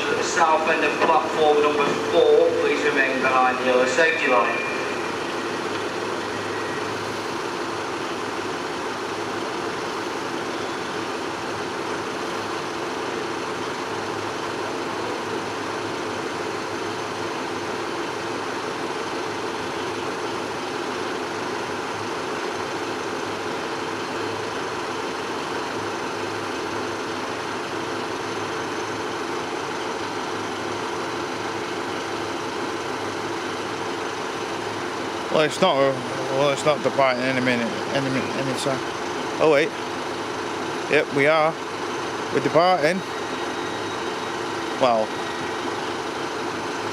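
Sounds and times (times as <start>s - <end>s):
train engine idling: 0.0s - 46.9s.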